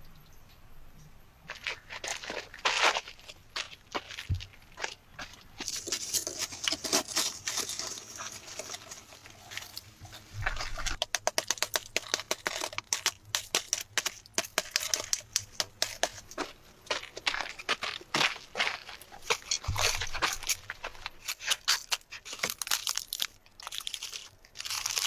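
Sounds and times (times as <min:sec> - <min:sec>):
dry material crunching and crackling: 0:01.5 - 0:25.0.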